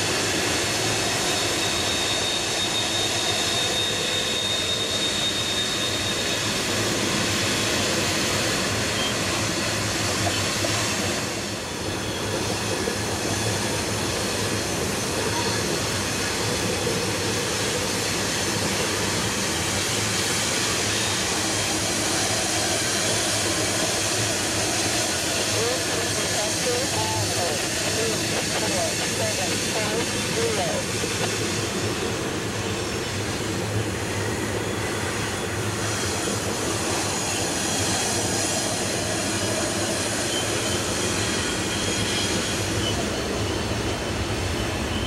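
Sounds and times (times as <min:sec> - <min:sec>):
heavy freight train running: 0:00.0 - 0:45.0.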